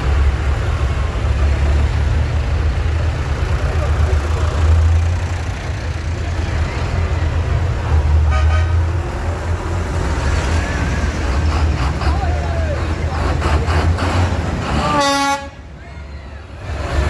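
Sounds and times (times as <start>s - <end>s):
tractor engines rumbling: 0.0s - 17.0s.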